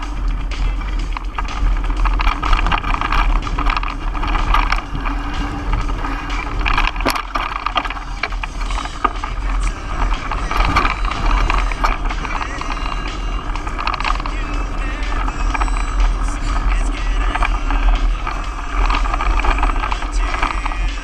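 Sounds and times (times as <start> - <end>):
bike rattling and clicking: 0.0 - 21.0
tyres rolling over dirt: 0.0 - 21.0
wind rumble on microphone: 0.0 - 21.0.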